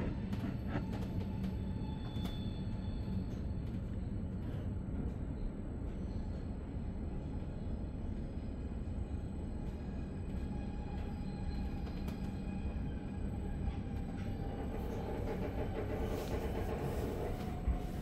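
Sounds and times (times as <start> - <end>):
train rumble inside coach: 0.0 - 18.0.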